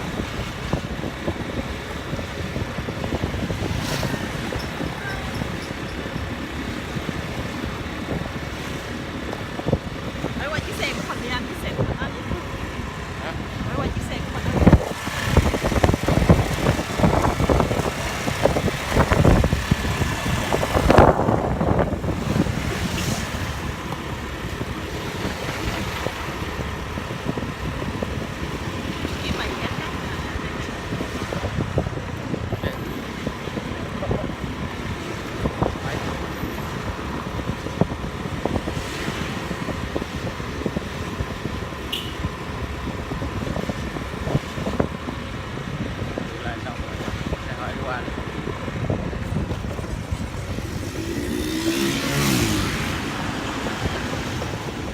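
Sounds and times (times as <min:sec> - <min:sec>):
motor traffic: 0:00.0 - 0:54.9
motorbike engine: 0:00.0 - 0:54.9
wind buffeting microphone: 0:00.0 - 0:54.9.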